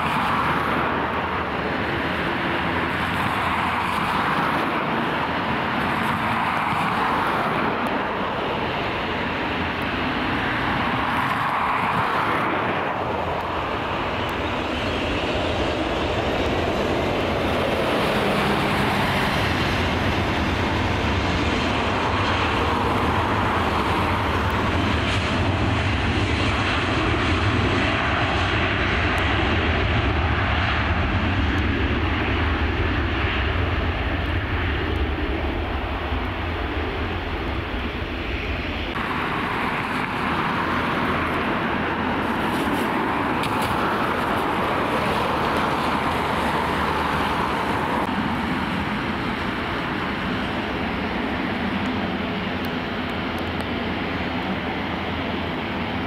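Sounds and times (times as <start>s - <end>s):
jet engines at takeoff: 0.0s - 56.0s.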